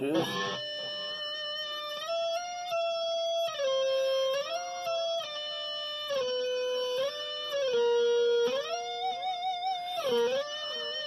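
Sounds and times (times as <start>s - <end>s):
electric guitar long gliding notes: 0.0s - 11.0s.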